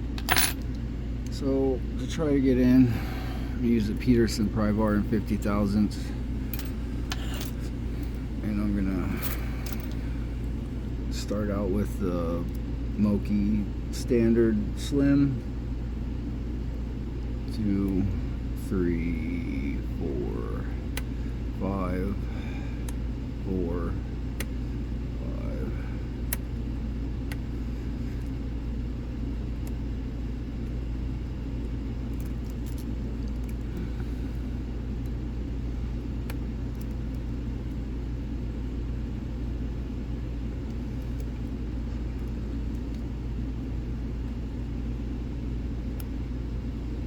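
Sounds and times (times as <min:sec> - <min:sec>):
low background rumble: 0:00.0 - 0:47.0.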